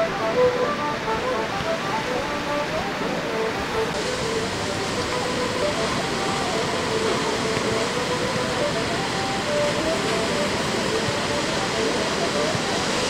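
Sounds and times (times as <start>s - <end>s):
surf breaking: 0.0s - 13.0s.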